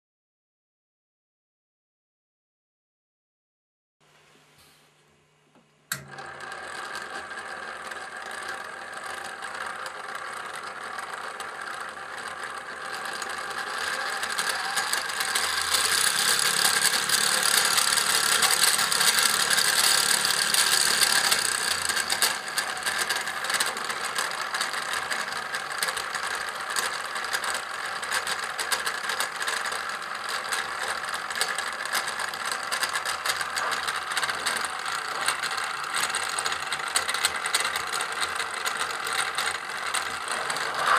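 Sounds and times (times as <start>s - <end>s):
electric motor gearbox whirring: 5.9s - 40.9s.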